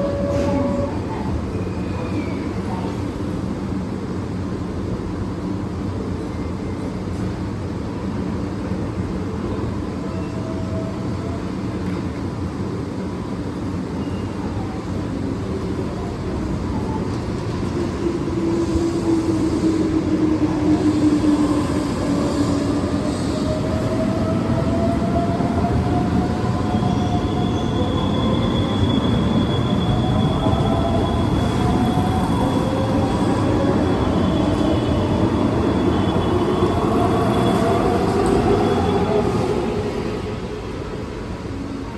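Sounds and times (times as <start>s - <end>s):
train rumble: 0.0s - 41.9s.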